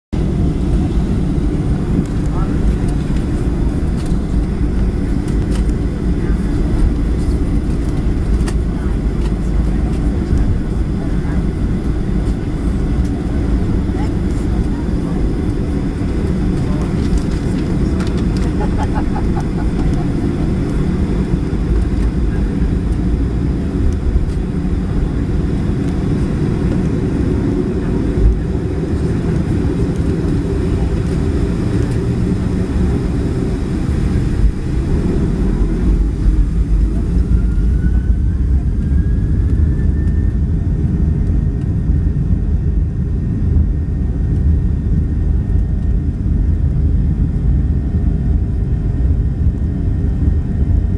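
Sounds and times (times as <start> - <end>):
jet engines rumbling in cabin: 0.1 - 50.9
jet engine whine rising in pitch: 0.2 - 50.9.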